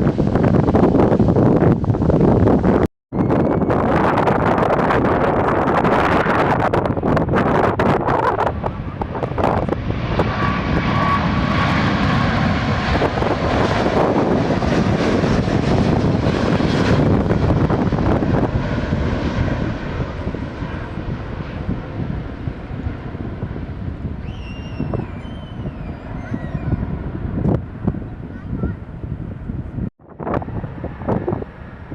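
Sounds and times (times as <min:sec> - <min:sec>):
airliner passing: 0:00.0 - 0:31.9
wind buffeting microphone: 0:00.0 - 0:31.9.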